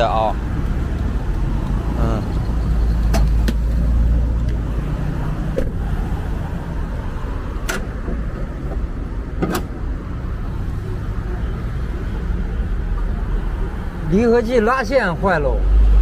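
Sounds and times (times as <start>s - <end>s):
car engine rumbling: 0.0s - 16.0s
road traffic: 0.0s - 16.0s.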